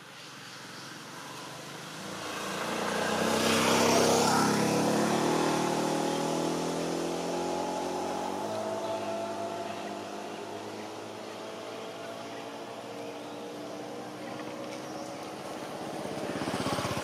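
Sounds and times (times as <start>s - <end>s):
vehicle driving past: 0.6s - 17.0s.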